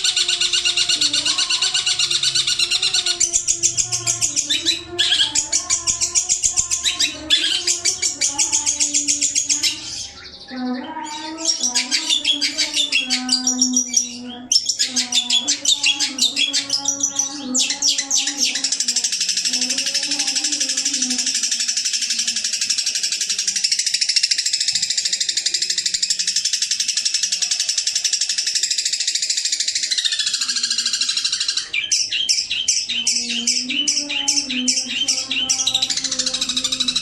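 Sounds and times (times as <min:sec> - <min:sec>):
bird chattering chirps: 0:00.0 - 0:37.0.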